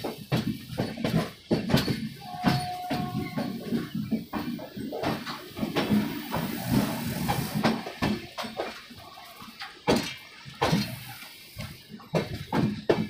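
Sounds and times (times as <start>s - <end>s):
train running rush: 0.0s - 13.0s
train wheels clattering over rail joints: 0.0s - 13.0s.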